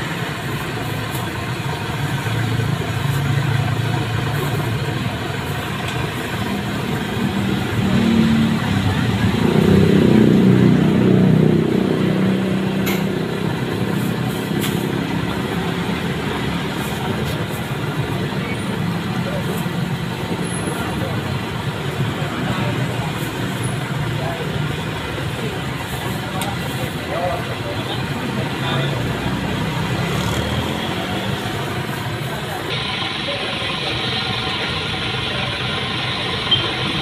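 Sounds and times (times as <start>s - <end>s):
motor vehicles passing: 0.0s - 32.7s
faint background voices: 0.0s - 37.0s.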